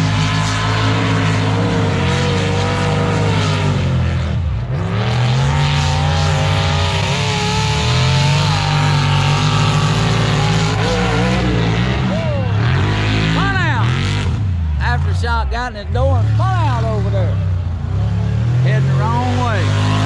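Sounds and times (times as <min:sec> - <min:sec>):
truck engines running hard: 0:00.0 - 0:20.0.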